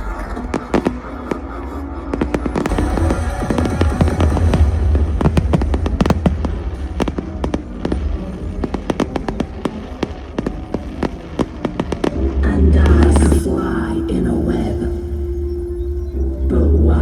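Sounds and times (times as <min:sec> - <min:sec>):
fireworks bursting: 0:00.0 - 0:15.5.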